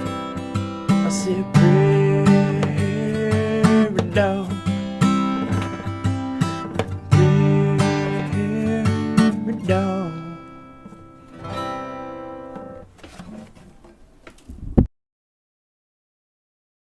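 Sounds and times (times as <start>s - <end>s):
acoustic guitar chords: 0.0s - 13.8s.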